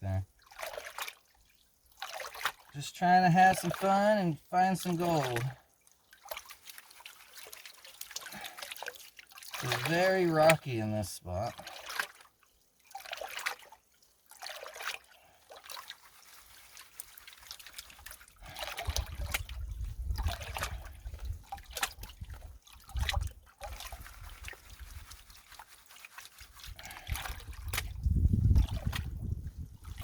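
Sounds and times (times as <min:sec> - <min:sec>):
water sloshing in a pan: 0:00.2 - 0:30.0.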